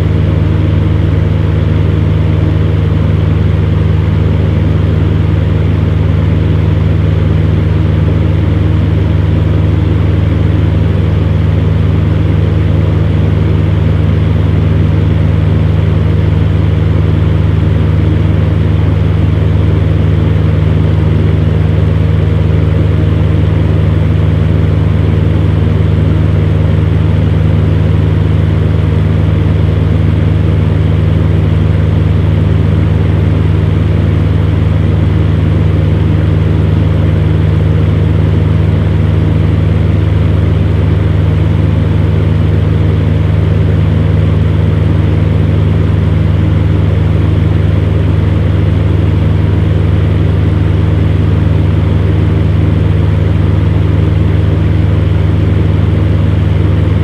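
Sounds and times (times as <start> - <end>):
fan heater motor hum: 0.0 - 57.0.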